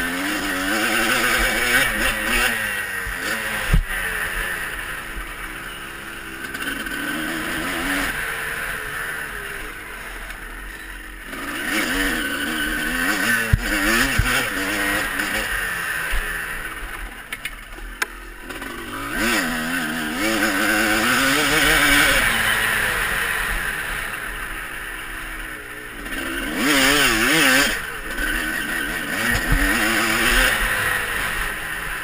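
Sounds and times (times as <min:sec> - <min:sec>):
motocross engines revving: 0:00.0 - 0:32.0.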